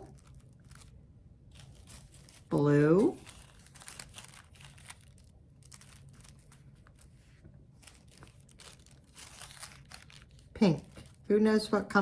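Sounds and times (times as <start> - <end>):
tissue paper rustling and crinkling: 0.0 - 11.3.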